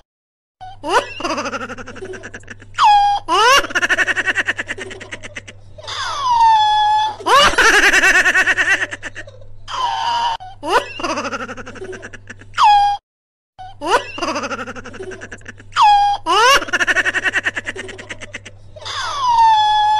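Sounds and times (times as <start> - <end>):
high-pitched laughter: 0.6 - 13.0, 13.6 - 19.9.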